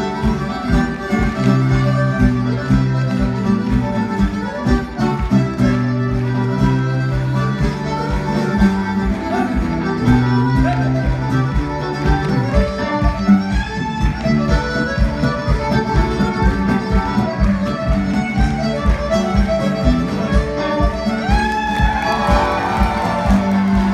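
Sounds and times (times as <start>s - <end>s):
fiddle: 0.0s - 23.9s
guitar: 0.0s - 23.9s.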